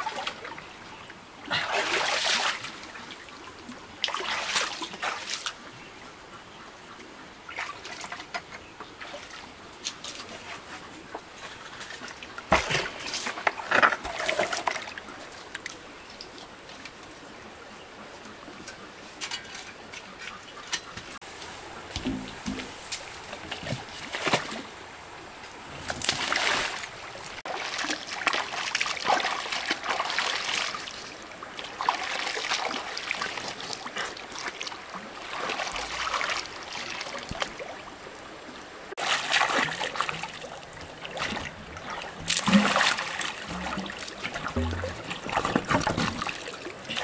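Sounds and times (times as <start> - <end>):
water splashing and sloshing: 0.0 - 47.0.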